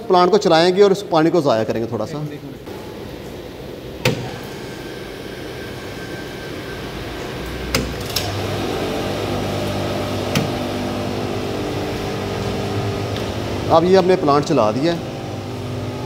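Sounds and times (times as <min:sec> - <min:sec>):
electric pump motor humming: 0:02.7 - 0:16.0.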